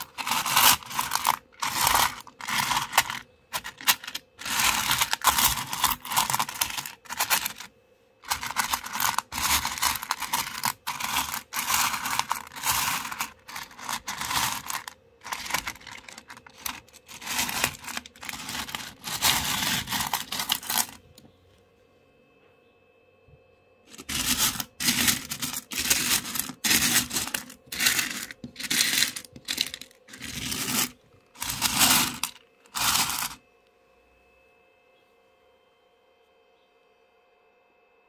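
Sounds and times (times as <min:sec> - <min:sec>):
stones clattering and scraping: 0:00.0 - 0:21.0, 0:23.9 - 0:33.4.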